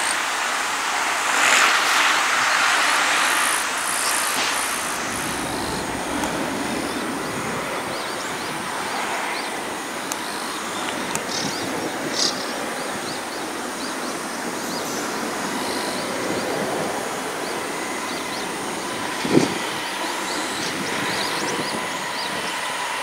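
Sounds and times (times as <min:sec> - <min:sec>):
distant freight train rumbling: 0:00.0 - 0:12.2, 0:12.8 - 0:23.0.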